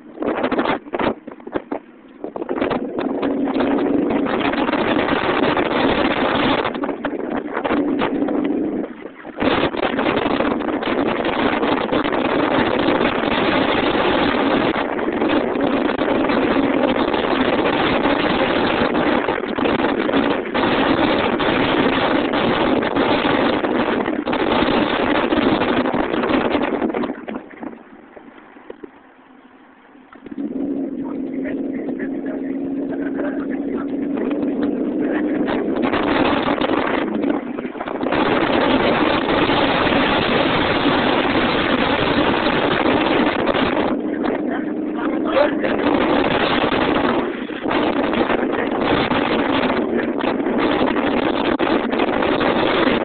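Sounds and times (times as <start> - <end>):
car engine and road noise: 0.0 - 53.0
wind buffeting microphone: 0.0 - 53.0.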